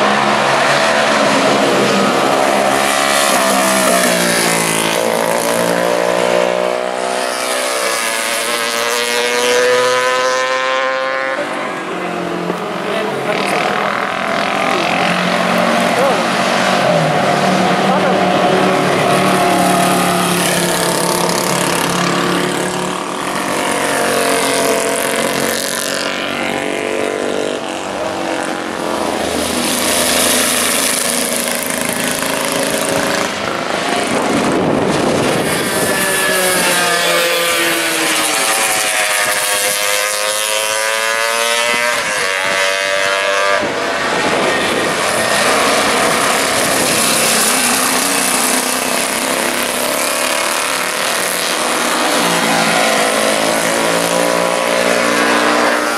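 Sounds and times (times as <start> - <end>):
racing motorcycle engines: 0.0 - 55.9
wind and road noise: 0.0 - 55.9.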